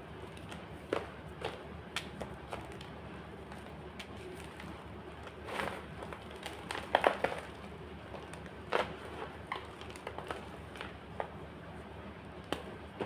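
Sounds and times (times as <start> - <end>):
chalk crunching and cracking: 0.3 - 11.4.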